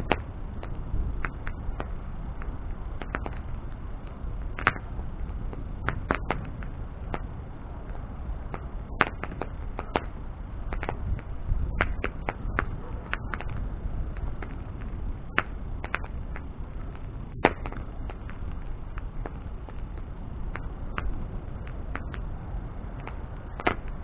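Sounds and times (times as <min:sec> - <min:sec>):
burning wood crackling and popping: 0:00.0 - 0:24.0
low rumble of flame: 0:00.0 - 0:24.0.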